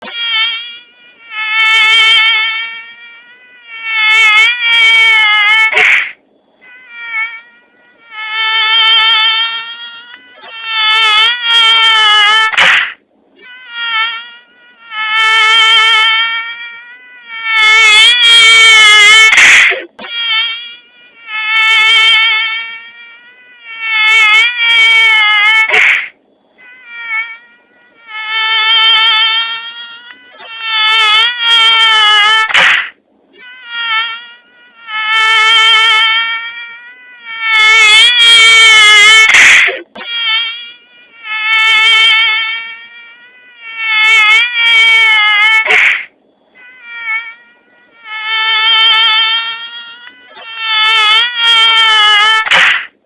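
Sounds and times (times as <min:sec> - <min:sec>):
mosquito whine: 0:00.0 - 0:53.0
burst of hiss: 0:00.6 - 0:06.2, 0:07.7 - 0:13.0, 0:13.6 - 0:26.2, 0:27.0 - 0:33.0, 0:33.7 - 0:46.1, 0:47.0 - 0:53.0.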